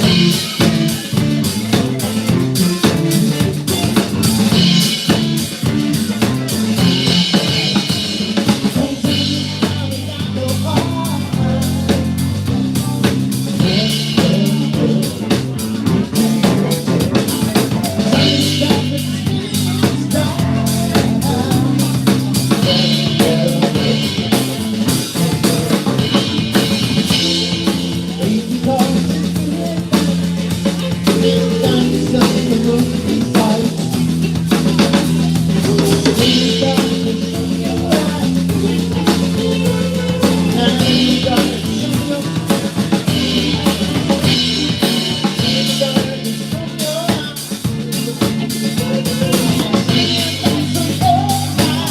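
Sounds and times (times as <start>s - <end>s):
drum kit: 0.0s - 51.9s
live band playing: 0.0s - 51.9s
sustained bass: 0.0s - 51.9s.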